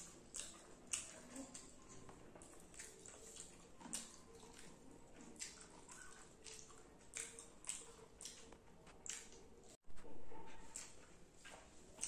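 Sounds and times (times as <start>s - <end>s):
wet chewing mouth sounds: 0.0s - 12.0s.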